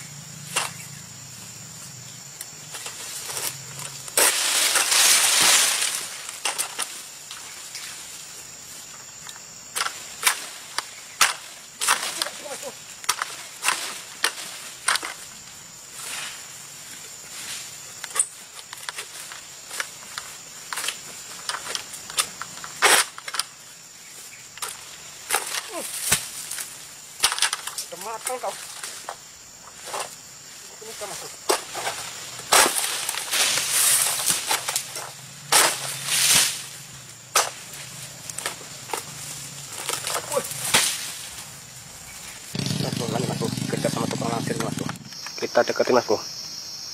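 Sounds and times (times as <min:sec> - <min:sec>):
dry vegetation rustling: 0:00.0 - 0:45.4
sickle cracking against palm fronds: 0:00.4 - 0:00.8, 0:02.3 - 0:45.4.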